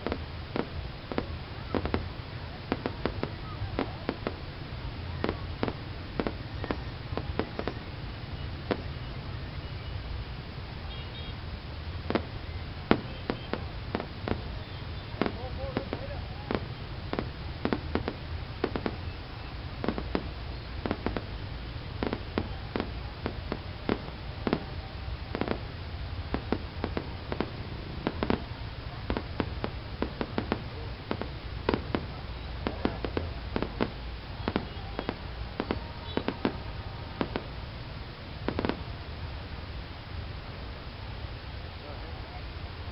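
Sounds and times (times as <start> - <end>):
fireworks popping and banging: 0.0 - 9.0, 12.0 - 37.7, 38.3 - 39.0.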